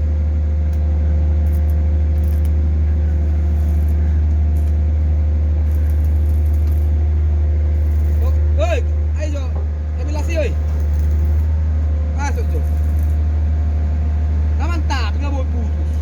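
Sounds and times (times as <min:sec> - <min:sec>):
pile driver engine humming: 0:00.0 - 0:16.0.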